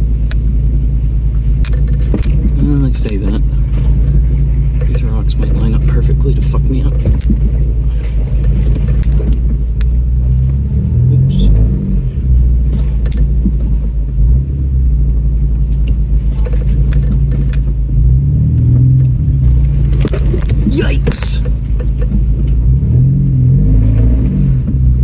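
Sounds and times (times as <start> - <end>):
truck engine at low revs: 0.0 - 25.0.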